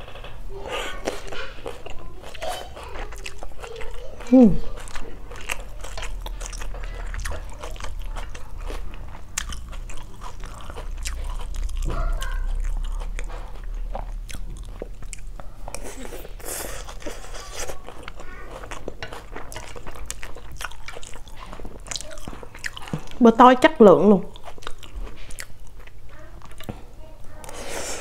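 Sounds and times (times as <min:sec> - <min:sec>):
crunchy biting and chewing: 0:00.0 - 0:23.2, 0:24.3 - 0:26.8.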